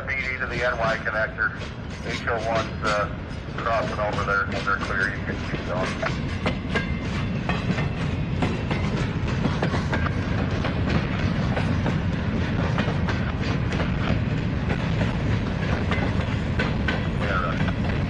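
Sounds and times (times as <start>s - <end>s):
freight train rumbling past: 0.0s - 18.0s
train wheels clacking: 0.0s - 18.0s.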